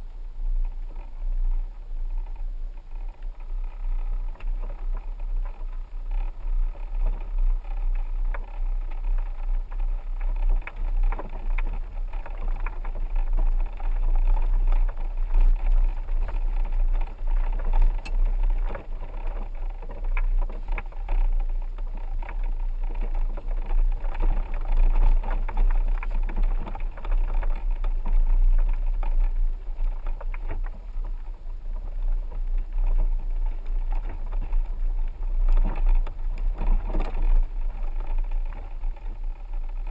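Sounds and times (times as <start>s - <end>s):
vehicle rumbling over dirt track: 0.0s - 39.9s.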